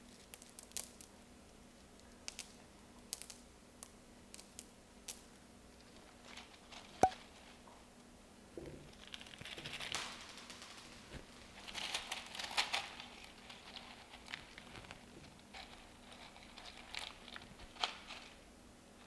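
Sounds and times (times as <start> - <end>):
clay pebbles rattling and crunching: 0.0 - 1.2, 1.8 - 7.6, 8.8 - 18.4.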